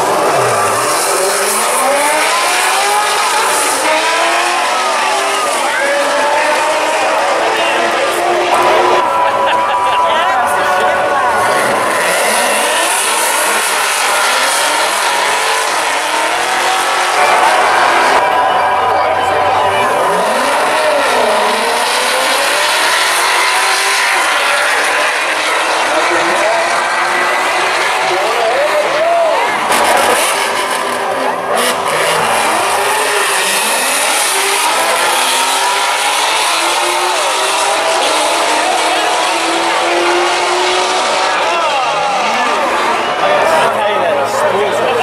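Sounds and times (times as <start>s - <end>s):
drag car engines accelerating: 0.0s - 45.0s.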